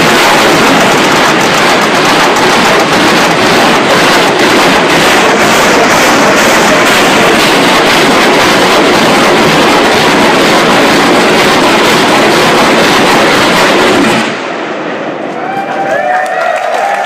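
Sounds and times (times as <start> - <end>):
artillery barrage roar: 0.0 - 15.3.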